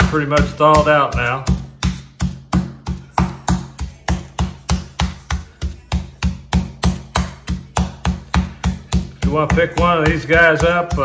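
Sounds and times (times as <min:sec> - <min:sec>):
meat mallet pounding on board: 0:00.0 - 0:11.0.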